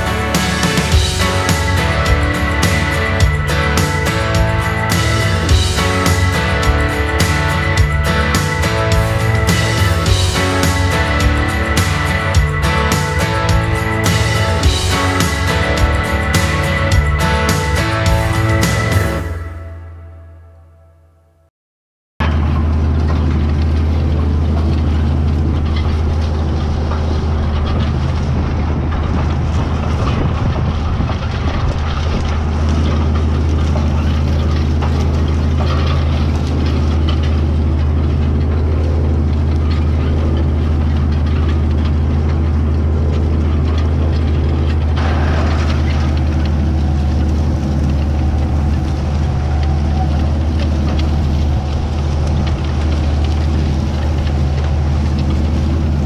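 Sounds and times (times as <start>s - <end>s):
higher-pitched clatter: 0.0s - 20.0s, 22.2s - 56.0s
tractor diesel engine droning: 0.0s - 20.8s, 22.2s - 56.0s.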